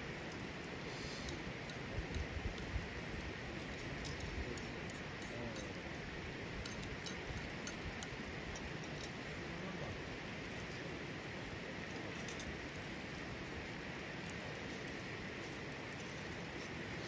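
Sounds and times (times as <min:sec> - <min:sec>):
campfire crackling and popping: 0:00.0 - 0:17.0
fire hissing: 0:00.0 - 0:17.0.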